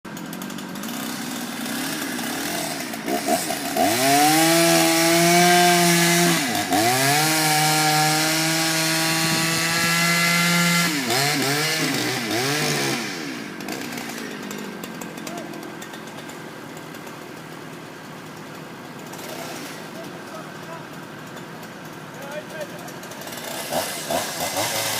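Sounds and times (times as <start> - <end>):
chainsaw revving: 0.1 - 24.9.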